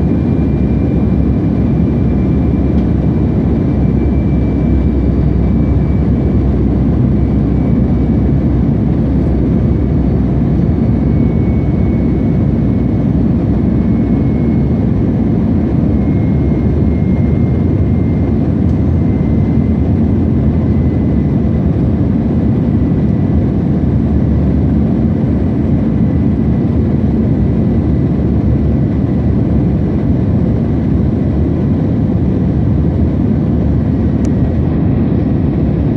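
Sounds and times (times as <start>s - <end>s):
faint high engine whine: 0.0s - 35.9s
jet engine low rumble: 0.0s - 35.9s.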